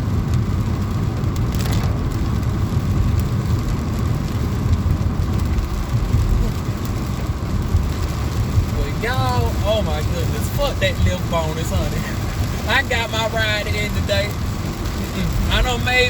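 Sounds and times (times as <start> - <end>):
car interior rumble: 0.0 - 16.0
heavy rain on car: 0.0 - 16.0.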